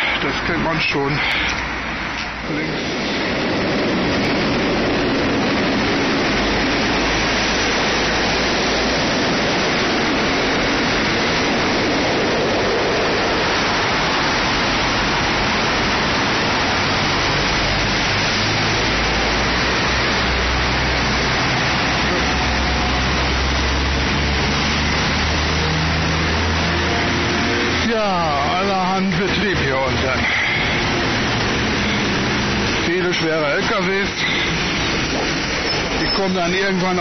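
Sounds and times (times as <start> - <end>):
cars driving past: 0.0 - 37.0
low rumbles: 0.0 - 37.0.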